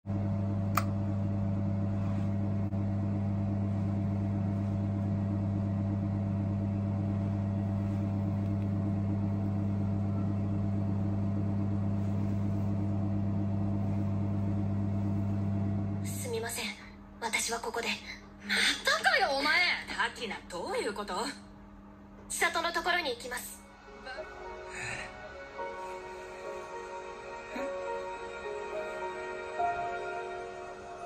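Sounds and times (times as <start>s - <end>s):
low electrical hum: 0.1s - 31.0s.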